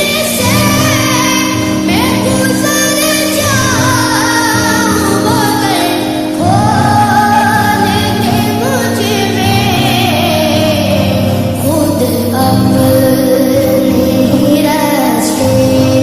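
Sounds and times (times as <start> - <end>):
person singing devotional song: 0.0 - 16.0
steady held drone: 0.0 - 16.0.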